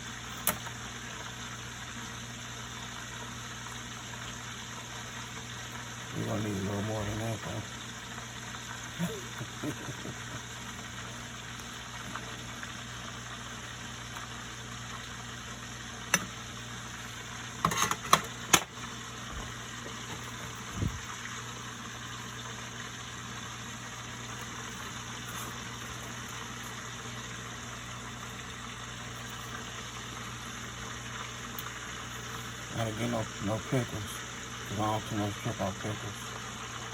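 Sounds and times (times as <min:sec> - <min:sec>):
small motor humming: 0:00.0 - 0:36.9.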